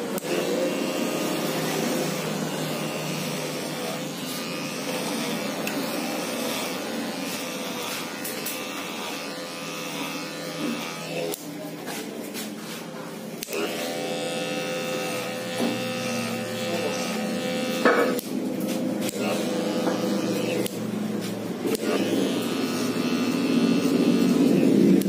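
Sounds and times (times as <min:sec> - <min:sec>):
electric hair clipper buzzing: 0:00.0 - 0:11.6, 0:13.4 - 0:25.0.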